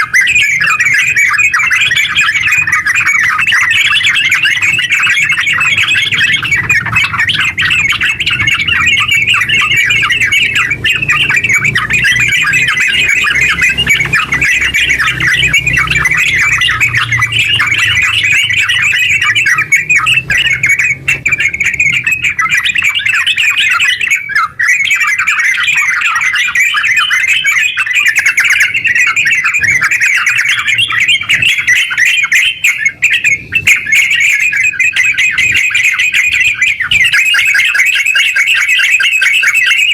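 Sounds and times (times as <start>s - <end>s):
bulbuls singing rapid chatter: 0.0s - 39.9s.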